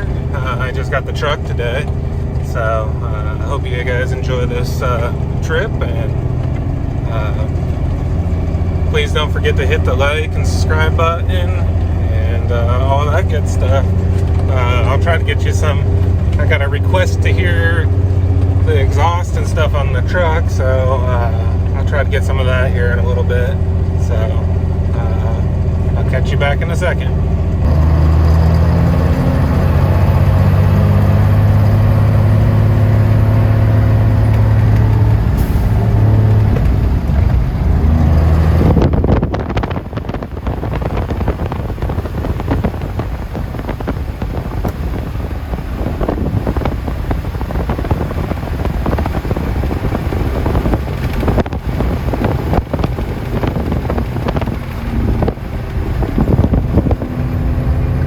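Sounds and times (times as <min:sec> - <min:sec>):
diesel truck engine drone: 0:00.0 - 0:58.0
road and wind noise: 0:00.0 - 0:58.0.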